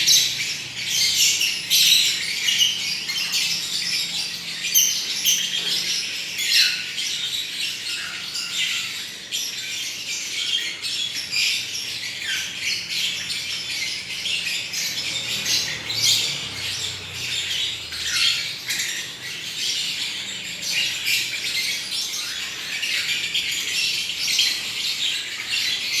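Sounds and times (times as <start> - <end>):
lovebirds chirping and squawking: 0.0 - 26.0.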